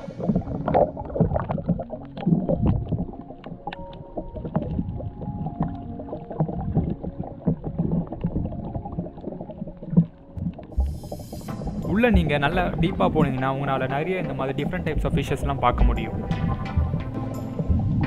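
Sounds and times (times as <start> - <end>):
muffled underwater rumbling: 0.0 - 18.0.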